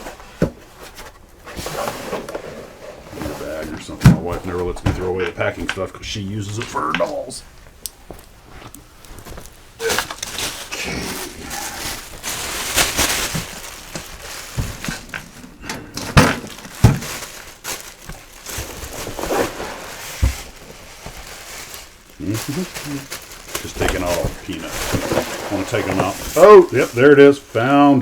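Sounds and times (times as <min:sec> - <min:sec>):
packing peanuts rustling: 0:00.0 - 0:28.0.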